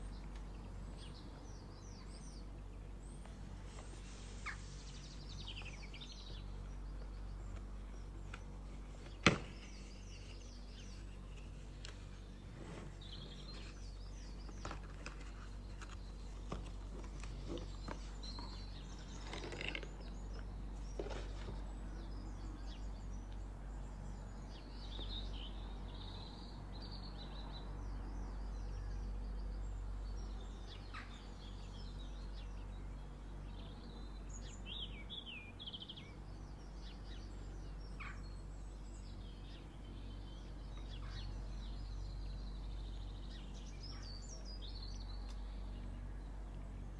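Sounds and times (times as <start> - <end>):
small birds chirping: 0.0 - 46.9
steady low hum: 0.0 - 46.9.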